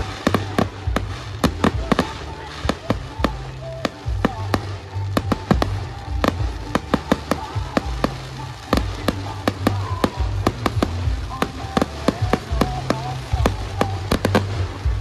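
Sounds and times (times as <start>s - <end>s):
fireworks cracks and pops: 0.0s - 15.0s.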